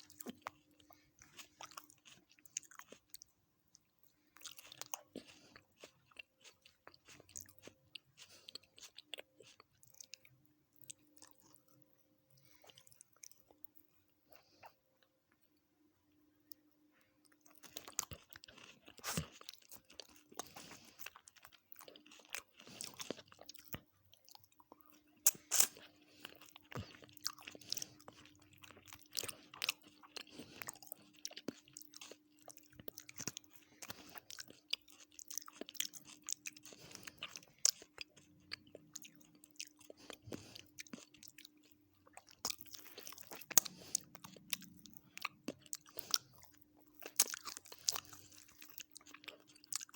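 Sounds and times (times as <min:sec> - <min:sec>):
chewing and crunching food: 0:00.0 - 0:15.7, 0:16.4 - 0:49.9
faint steady hum: 0:00.0 - 0:49.9.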